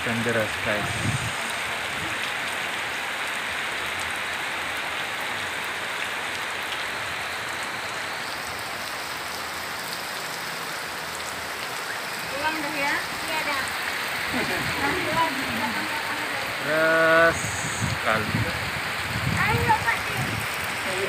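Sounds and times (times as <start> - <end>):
heavy rain on a pond: 0.0 - 21.0.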